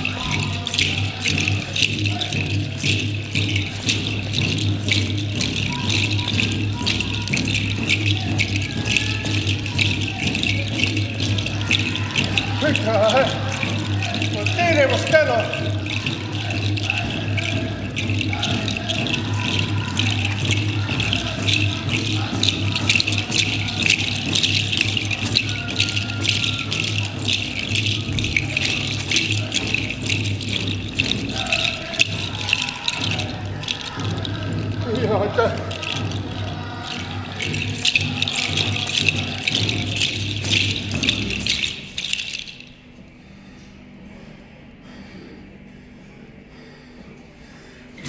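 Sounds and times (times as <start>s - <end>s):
rattle shaken: 0.0s - 43.4s.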